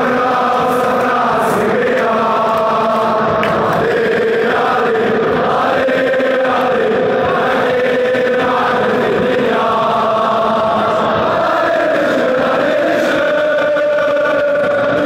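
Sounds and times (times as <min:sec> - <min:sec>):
stadium crowd chanting: 0:00.0 - 0:15.0.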